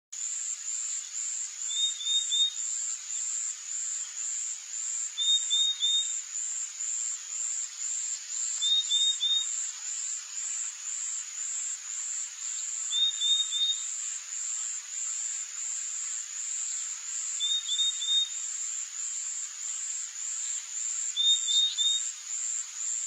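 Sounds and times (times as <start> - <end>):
high insect chirp: 0.2 - 23.0.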